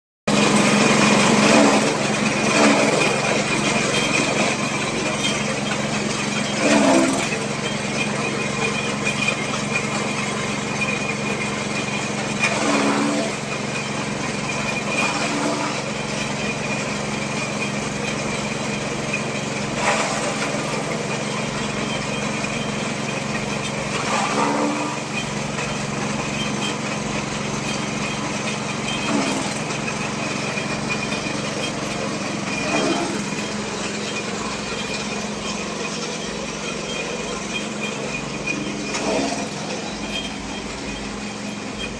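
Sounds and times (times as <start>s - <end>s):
fodder chopping machine humming: 0.3s - 41.9s.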